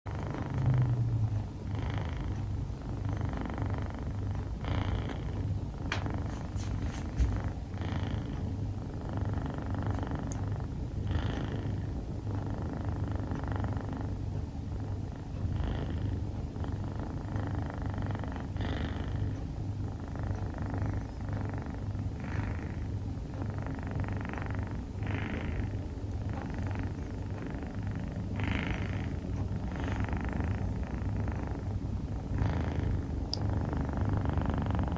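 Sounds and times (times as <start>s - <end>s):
kitten snoring: 0.1s - 34.9s
low steady rumble: 0.1s - 34.9s.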